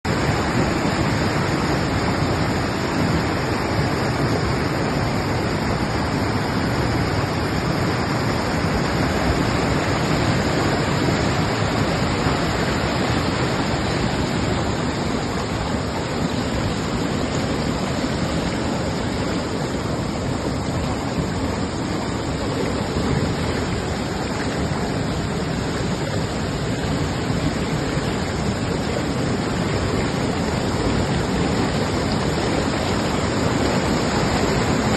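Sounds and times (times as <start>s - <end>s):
river rushing: 0.0s - 34.9s.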